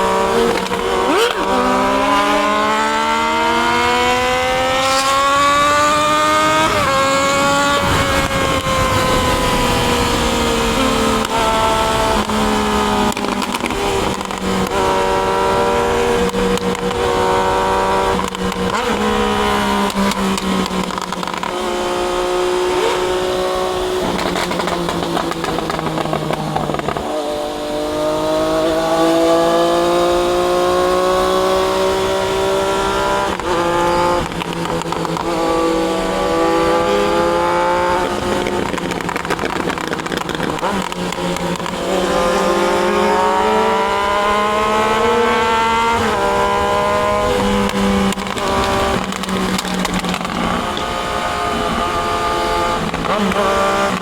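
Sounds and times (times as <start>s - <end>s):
motorcycle engine accelerating through gears: 0.0s - 54.0s.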